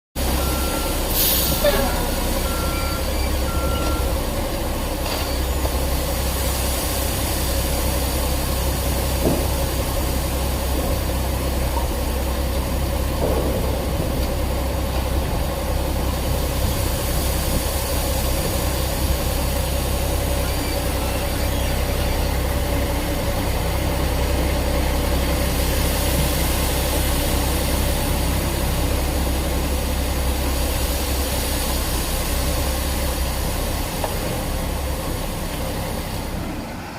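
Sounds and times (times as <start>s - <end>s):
heavy machine engine rumbling: 0.2s - 36.9s.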